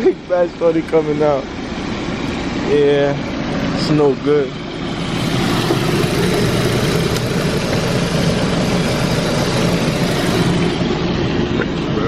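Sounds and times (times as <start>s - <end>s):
car engine idling and misfiring: 0.0s - 12.0s.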